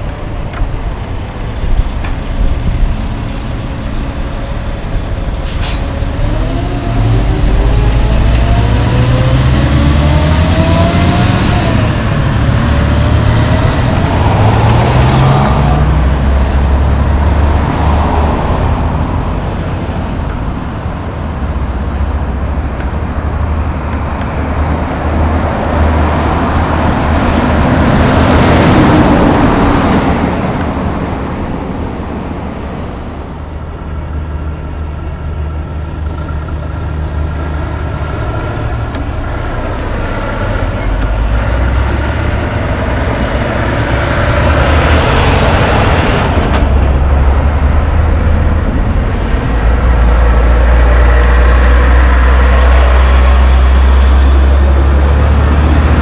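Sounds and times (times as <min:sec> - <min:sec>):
diesel truck traffic: 0:00.0 - 0:56.0
truck diesel engine pulling away: 0:00.0 - 0:56.0
truck passing close by: 0:00.0 - 0:56.0.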